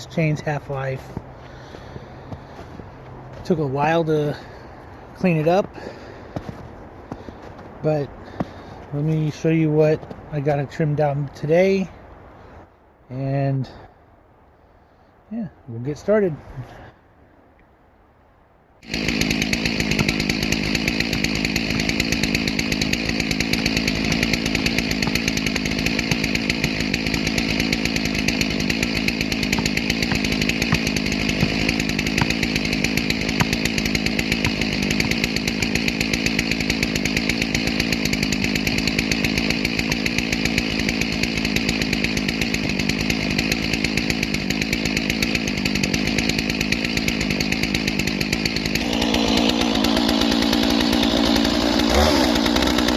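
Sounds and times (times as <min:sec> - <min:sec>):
chainsaw cutting log: 0:00.0 - 0:11.1, 0:18.8 - 0:52.9.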